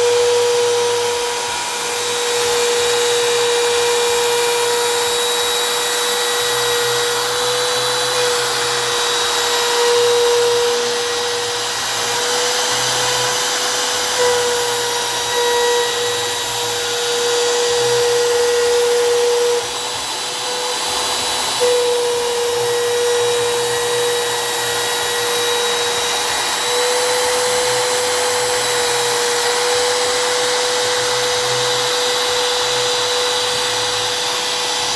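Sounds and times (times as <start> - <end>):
hiss: 0.0 - 34.9
router spindle whine: 0.0 - 34.9.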